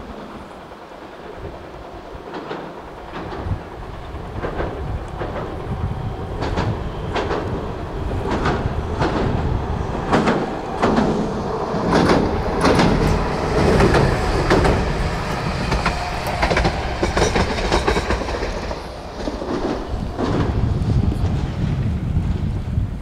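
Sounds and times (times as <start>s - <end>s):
train wheels clacking over rail joints: 0.9s - 22.4s
low rumble: 4.3s - 23.0s.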